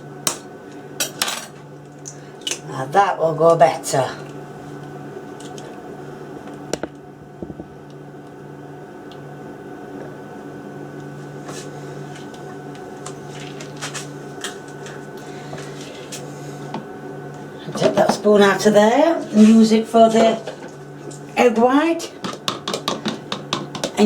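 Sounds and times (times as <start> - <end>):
appliance fan hum: 0.0 - 24.0.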